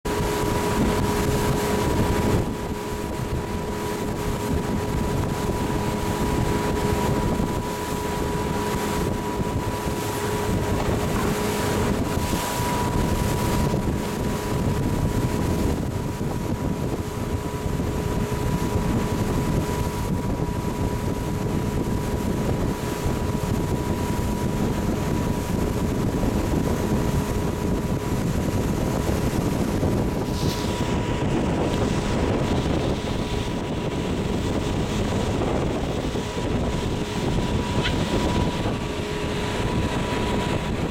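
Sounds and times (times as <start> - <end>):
boat motor running: 0.0 - 40.9
wind on microphone: 0.0 - 40.9.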